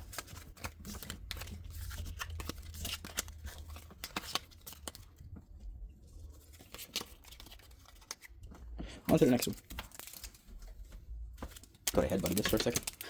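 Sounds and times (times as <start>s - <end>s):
cards and foil wrappers crinkling: 0.0s - 5.2s, 6.2s - 13.0s.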